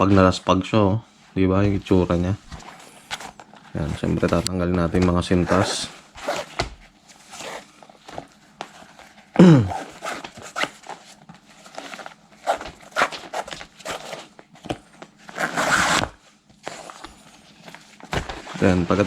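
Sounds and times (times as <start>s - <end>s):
shoelaces rustling and scraping: 1.6s - 19.0s.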